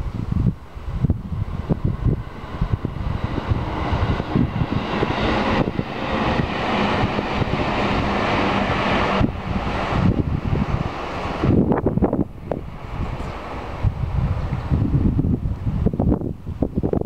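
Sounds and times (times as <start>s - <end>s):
wind buffeting microphone: 0.0s - 17.0s
distant engine drone: 0.4s - 15.8s.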